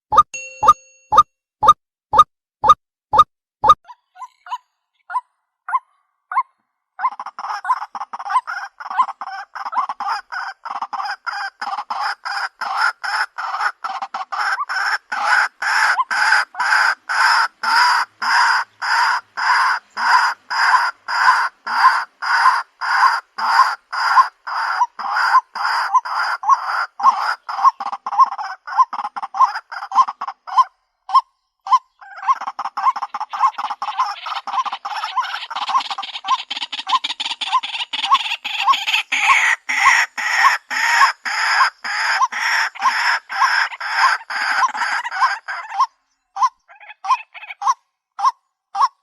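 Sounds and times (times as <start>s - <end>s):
bird croaking calls: 3.9s - 49.0s.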